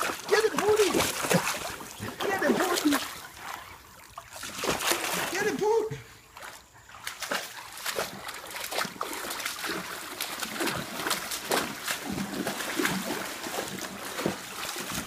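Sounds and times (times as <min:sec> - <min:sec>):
dog splashing in water: 0:00.0 - 0:05.7, 0:06.3 - 0:15.0.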